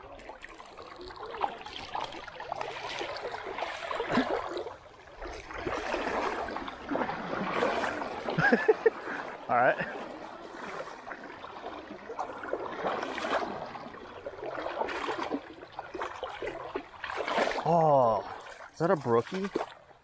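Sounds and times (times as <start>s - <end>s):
net splashing in water: 0.0s - 9.3s, 9.9s - 19.8s
river current gurgling: 0.0s - 20.0s.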